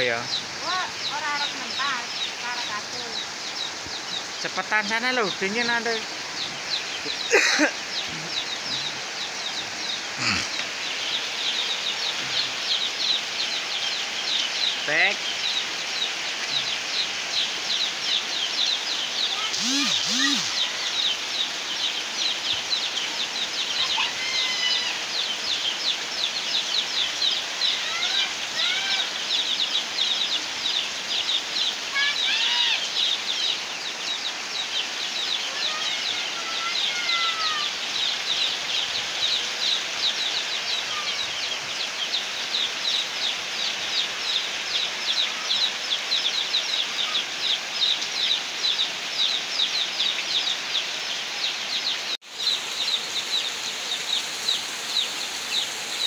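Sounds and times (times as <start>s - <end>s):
heavy rain falling: 0.0s - 51.1s
birds chirping: 0.0s - 56.0s.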